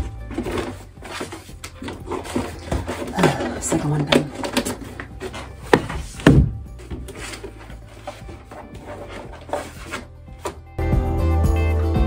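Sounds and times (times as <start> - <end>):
papers rustling: 0.0 - 10.8.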